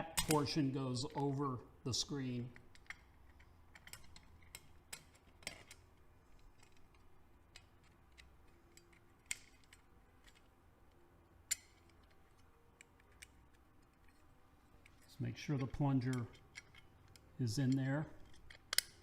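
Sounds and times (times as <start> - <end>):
small metal parts clicking: 2.5 - 19.0.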